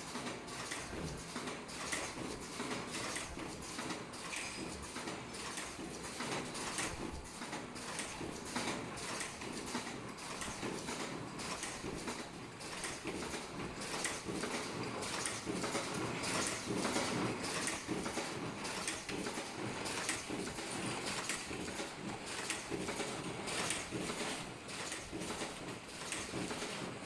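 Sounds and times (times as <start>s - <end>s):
machine clattering: 0.0s - 27.0s.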